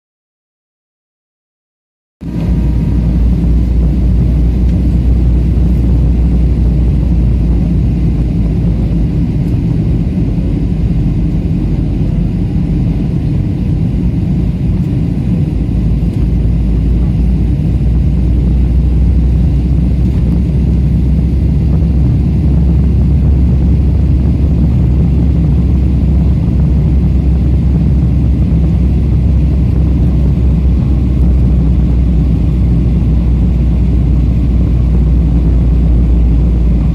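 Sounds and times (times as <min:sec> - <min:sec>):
jet engine cabin rumble: 0:02.2 - 0:36.9.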